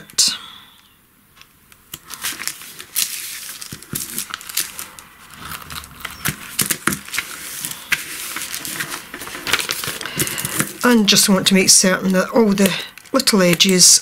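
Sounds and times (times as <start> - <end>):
paper rustling and crackling: 1.4 - 14.0.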